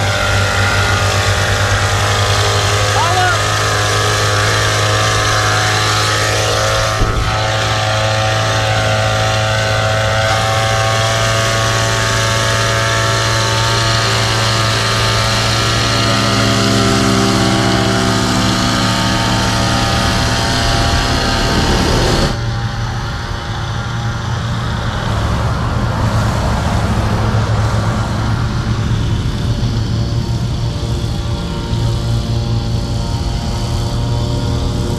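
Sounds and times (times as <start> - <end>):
mist-blower engine running: 0.0 - 34.9.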